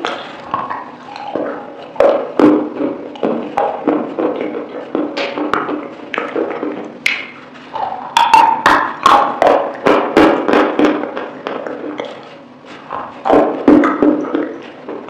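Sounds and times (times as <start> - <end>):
sticky mouth clicks: 0.0 - 15.0
wet chewing and lip-smacking: 0.0 - 15.0.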